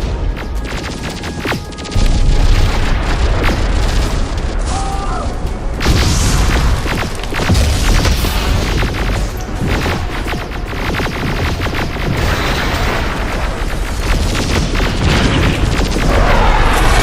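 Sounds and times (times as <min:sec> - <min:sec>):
booms and impacts: 0:00.0 - 0:17.0
deep rumble: 0:01.9 - 0:17.0.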